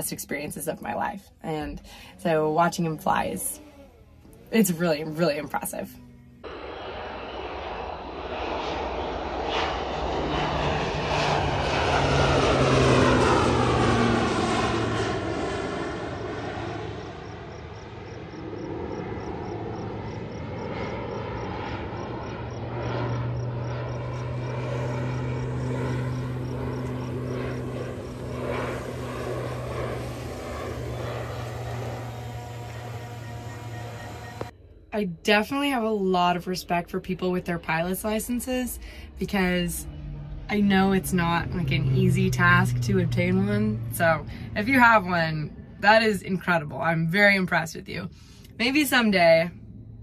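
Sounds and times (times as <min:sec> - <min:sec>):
propeller plane flying over: 0:00.0 - 0:50.0.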